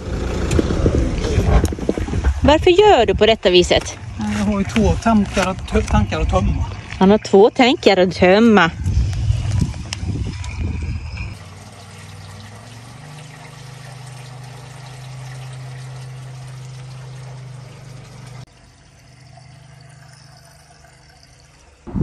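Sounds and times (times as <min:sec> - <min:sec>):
waste water gushing from drain: 0:01.9 - 0:10.7, 0:11.3 - 0:21.9
tap water running from hose: 0:02.5 - 0:21.9.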